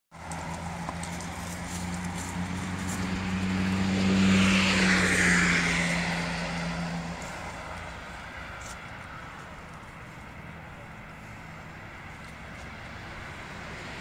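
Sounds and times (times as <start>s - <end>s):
vehicle passing by: 0.1s - 14.0s.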